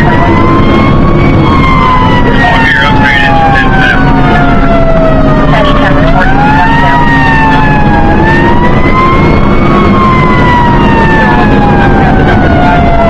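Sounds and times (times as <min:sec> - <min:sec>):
fire engine siren wailing: 0:00.0 - 0:13.0
truck engine humming: 0:00.0 - 0:13.0.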